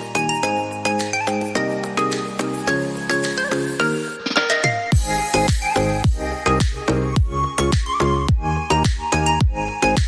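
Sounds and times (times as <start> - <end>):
upbeat music with bell-like notes: 0.0 - 10.0.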